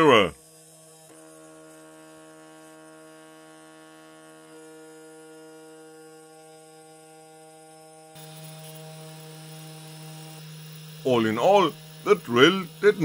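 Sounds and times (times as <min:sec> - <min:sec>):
spindle motor humming: 0:00.0 - 0:13.0.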